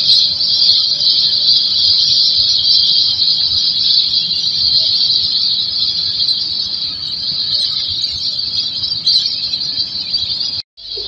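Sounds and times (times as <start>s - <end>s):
faint chirps: 0.0s - 11.0s
insect chorus drone: 0.0s - 11.0s.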